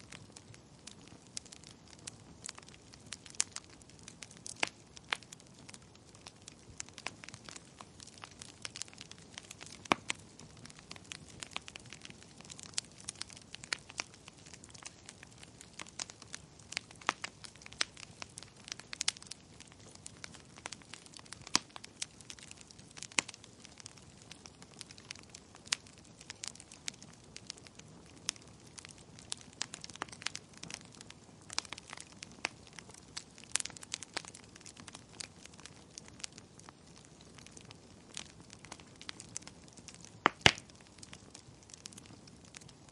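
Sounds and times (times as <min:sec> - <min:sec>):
fire crackling: 0:00.0 - 0:42.9.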